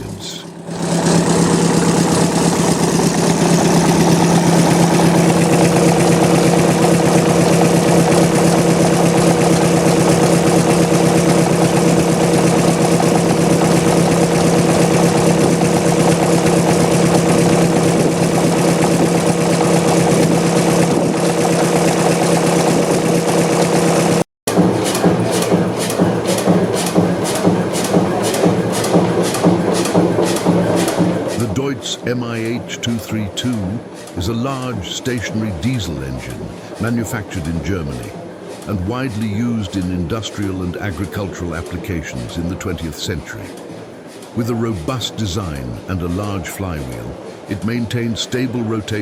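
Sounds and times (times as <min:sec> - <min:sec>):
diesel engine pulsing: 0:00.0 - 0:49.0.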